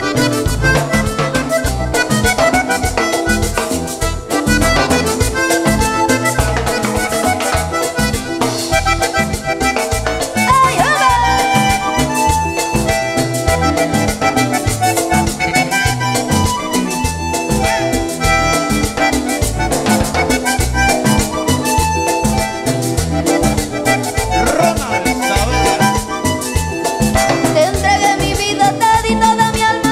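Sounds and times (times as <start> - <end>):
band percussion and bass: 0.0 - 29.9
button accordion playing: 0.0 - 29.9.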